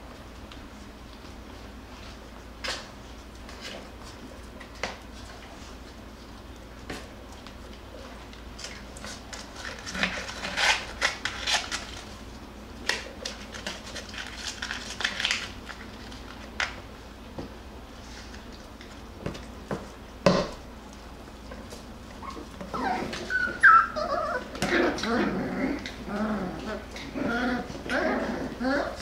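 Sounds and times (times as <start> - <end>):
puppies scrabbling on cardboard: 0.3 - 29.0.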